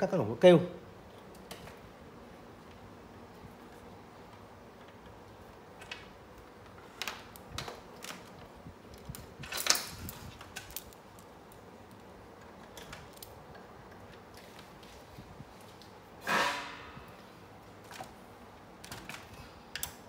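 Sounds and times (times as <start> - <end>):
cables and plugs clicking and rattling: 1.0 - 16.2, 17.1 - 20.0.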